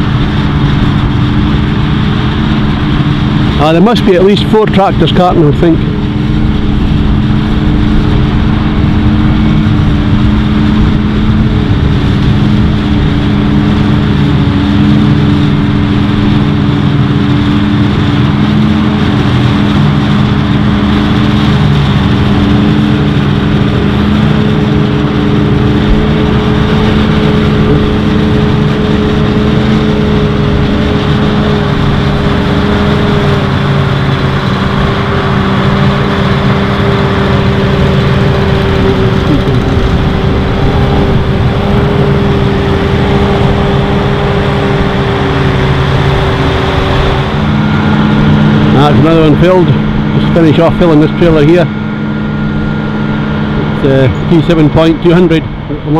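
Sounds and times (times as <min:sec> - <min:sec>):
forage harvester engine humming: 0:00.0 - 0:55.9
tractor engine running: 0:00.0 - 0:55.9.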